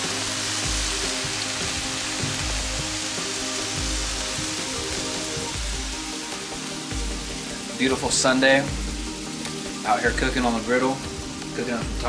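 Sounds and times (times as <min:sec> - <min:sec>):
background music with deep beat: 0:00.0 - 0:12.0
meat sizzling on a griddle: 0:00.0 - 0:12.0.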